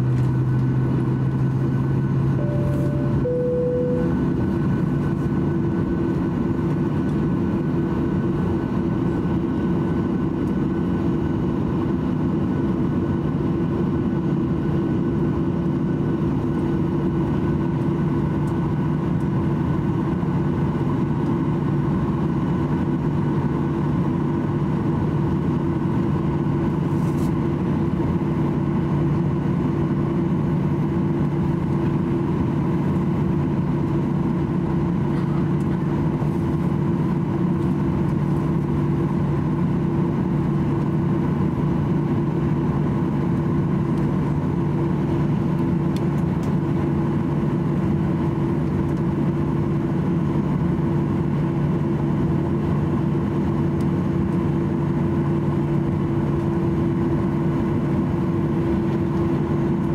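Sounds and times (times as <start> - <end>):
jet engines idling in cabin: 0.0 - 59.9.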